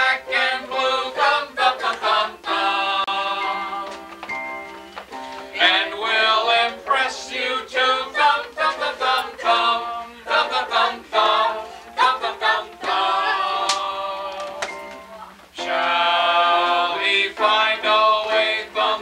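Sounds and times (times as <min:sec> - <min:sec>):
group of voices singing: 0:00.0 - 0:04.4, 0:05.5 - 0:19.0.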